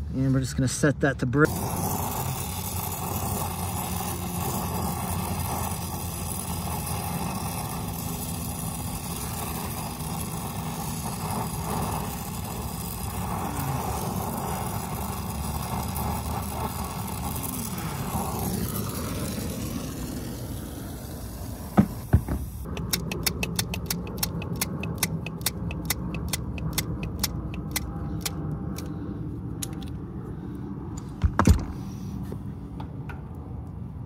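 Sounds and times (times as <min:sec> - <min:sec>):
torch flame hissing: 0:01.4 - 0:28.9.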